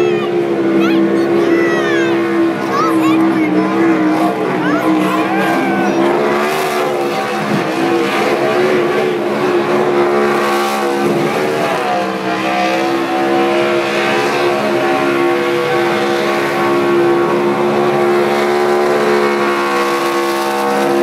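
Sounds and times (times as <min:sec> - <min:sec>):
race car engines revving: 0:00.0 - 0:21.0
tires spinning: 0:00.0 - 0:21.0.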